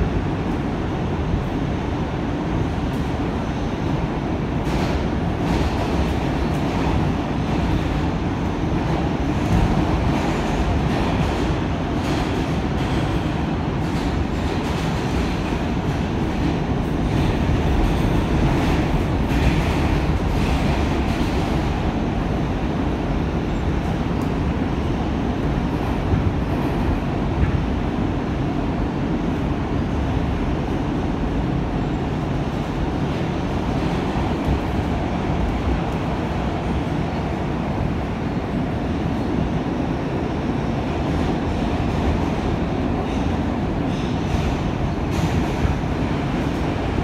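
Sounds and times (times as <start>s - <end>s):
subway wheels rumbling on rail: 0.0s - 47.0s.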